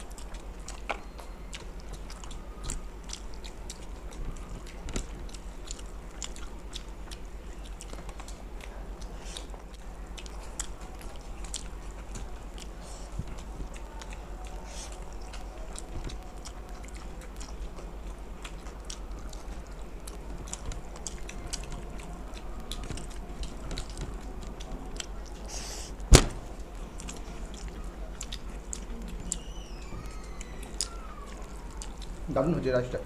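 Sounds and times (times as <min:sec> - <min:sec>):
person chewing food: 0:00.0 - 0:32.3
steady low hum: 0:00.0 - 0:33.0.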